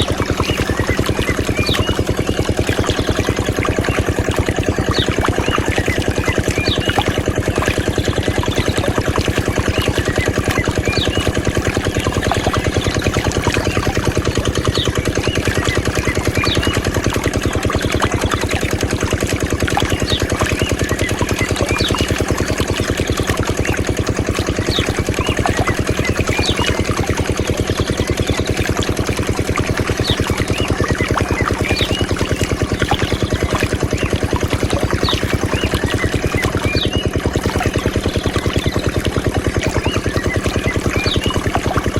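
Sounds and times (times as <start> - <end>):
small diesel engine running: 0.0 - 41.9.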